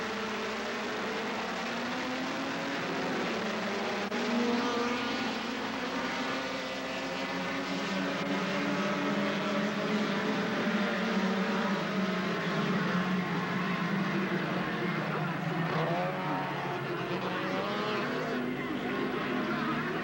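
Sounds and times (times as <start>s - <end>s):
cars accelerating away: 0.0s - 20.0s
race car engines revving: 0.0s - 20.0s.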